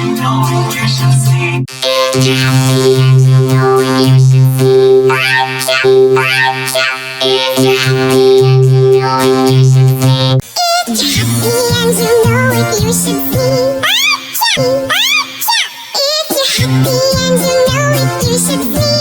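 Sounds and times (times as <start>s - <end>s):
synthesizer music: 0.0s - 16.0s.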